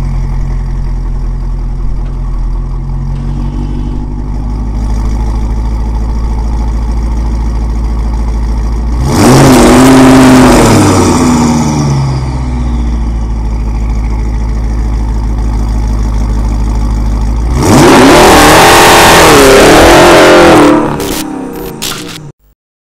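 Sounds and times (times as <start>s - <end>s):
car engine idling and revving: 0.0s - 22.3s.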